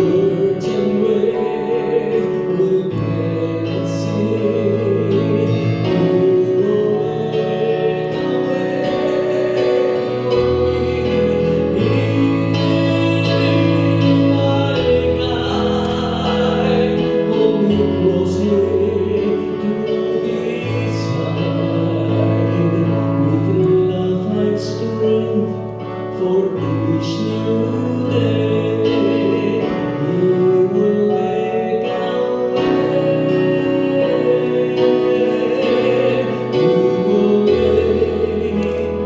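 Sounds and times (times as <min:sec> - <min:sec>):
live worship music: 0:00.0 - 0:39.0
person singing: 0:00.0 - 0:39.0.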